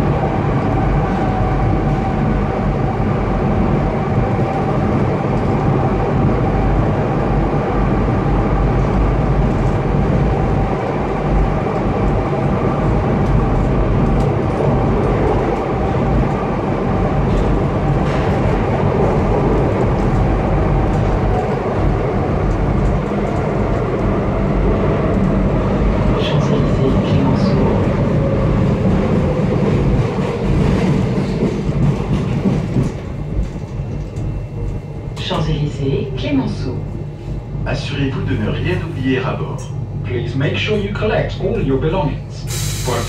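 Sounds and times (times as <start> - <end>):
metro train rumbling in tunnel: 0.0 - 43.0.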